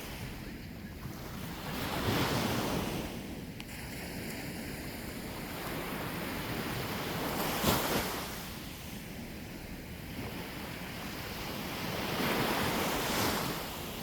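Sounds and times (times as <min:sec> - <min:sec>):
sea waves breaking on shore: 0:00.0 - 0:14.0
wind on microphone: 0:00.0 - 0:14.0.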